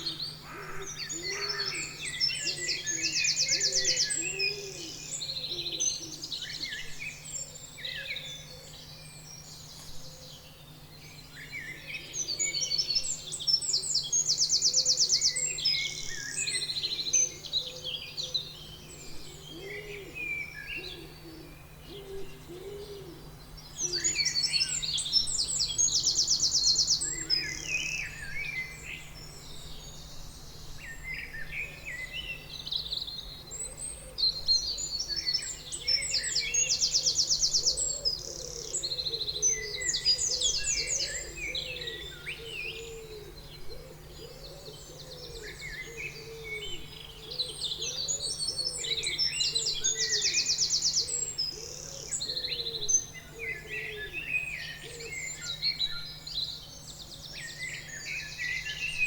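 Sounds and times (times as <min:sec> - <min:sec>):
birds singing: 0:00.0 - 0:59.0.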